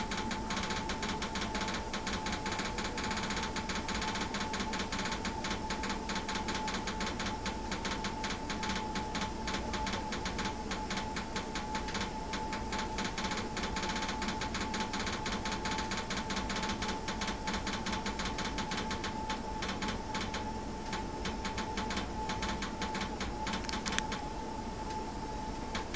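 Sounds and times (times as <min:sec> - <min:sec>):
rapid mechanical ticking: 0:00.0 - 0:24.2.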